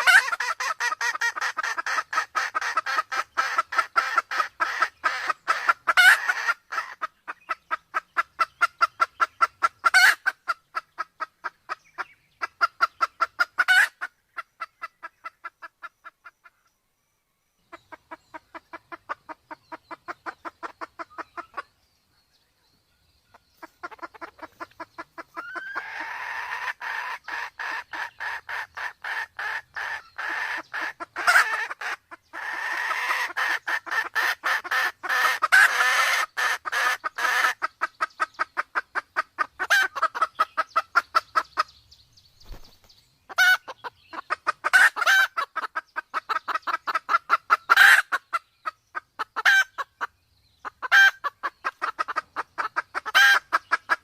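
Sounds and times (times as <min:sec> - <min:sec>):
sharp hen calls: 0:00.0 - 0:11.8, 0:12.4 - 0:16.2, 0:23.6 - 0:41.7, 0:43.3 - 0:54.0
hen clucking: 0:00.0 - 0:16.6, 0:17.7 - 0:21.7, 0:23.5 - 0:41.8, 0:42.4 - 0:54.0.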